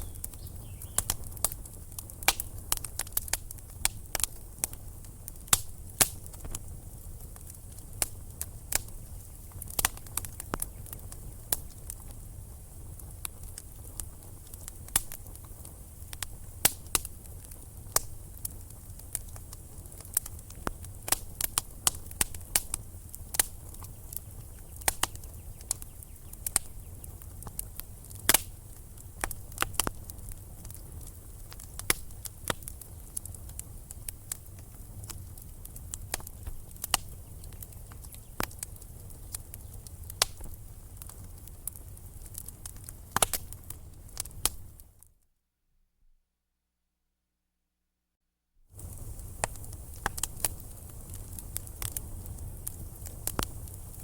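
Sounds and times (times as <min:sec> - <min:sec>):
low rumble of flames: 0:00.0 - 0:45.0, 0:48.7 - 0:54.0
fire crackling and popping: 0:00.0 - 0:45.1, 0:48.7 - 0:54.0.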